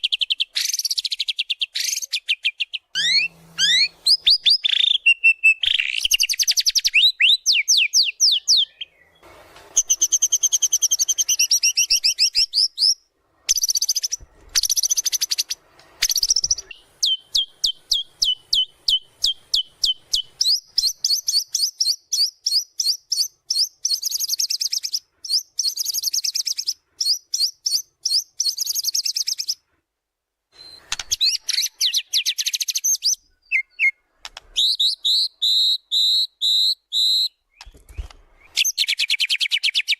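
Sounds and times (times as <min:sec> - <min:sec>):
bird singing rapid chirps and trills: 0:00.0 - 0:29.6, 0:30.6 - 0:39.9.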